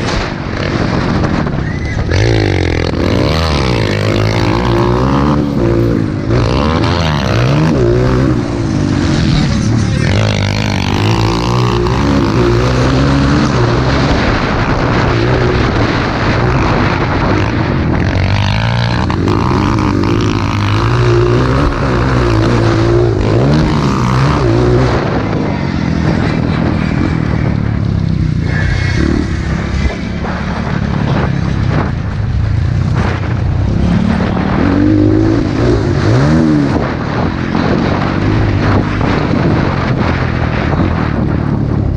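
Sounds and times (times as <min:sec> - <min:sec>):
dirt bike engine revving: 0:00.0 - 0:41.6.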